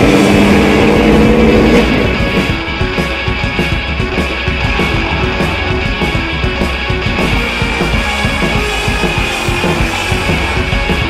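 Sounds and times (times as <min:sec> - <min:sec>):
rock music with drum beat: 0:00.0 - 0:11.0.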